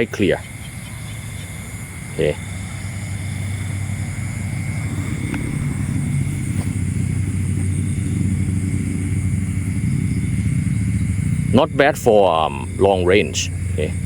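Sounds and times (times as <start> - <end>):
engine hum: 0.0 - 14.0
faint high whine: 0.0 - 14.0.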